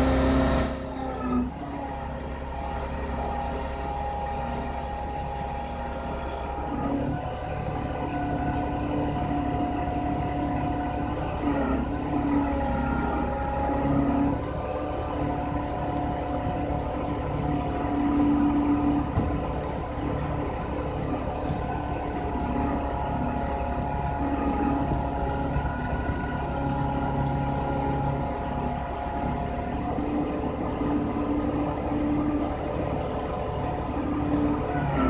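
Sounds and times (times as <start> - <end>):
diesel engine and hydraulics running: 0.0 - 35.0.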